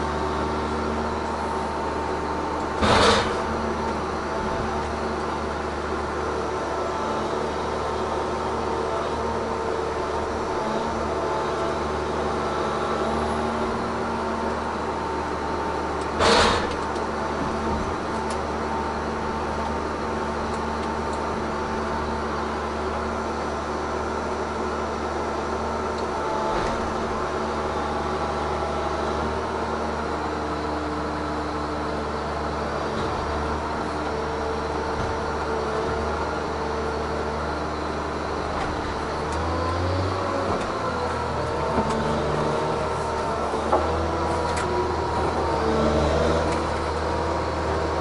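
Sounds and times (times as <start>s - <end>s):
diesel engine and hydraulics: 0.0s - 48.0s.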